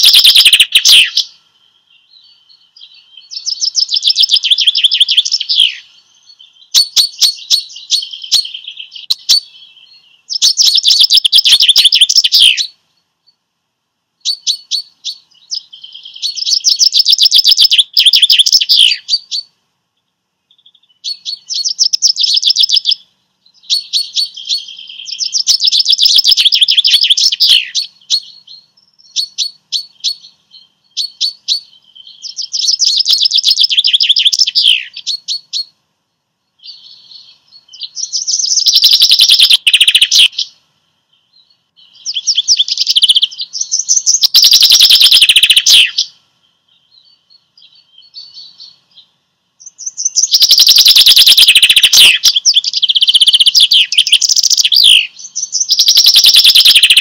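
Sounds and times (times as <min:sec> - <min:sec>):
songbird trilling and warbling: 0:00.0 - 0:13.4, 0:14.2 - 0:35.8, 0:36.4 - 0:57.0.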